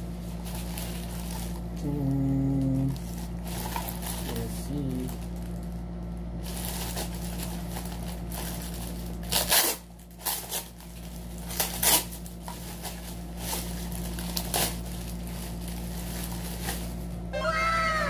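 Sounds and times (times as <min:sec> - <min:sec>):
plastic bag crinkling: 0:00.3 - 0:01.8, 0:02.6 - 0:17.2.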